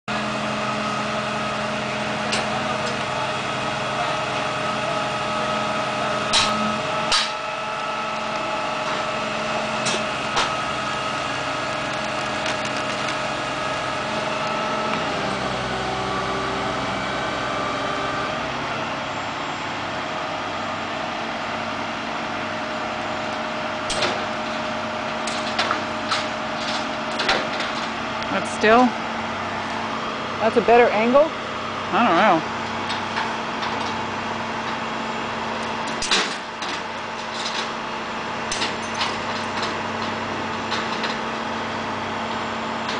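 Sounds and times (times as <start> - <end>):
tow truck engine humming: 0.1 - 42.9.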